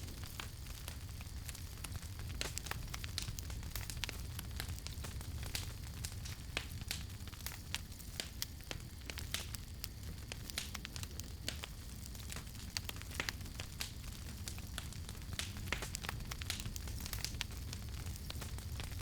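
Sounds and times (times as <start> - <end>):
low rumble of burning fire: 0.0 - 19.0
campfire pops and snaps: 0.1 - 19.0.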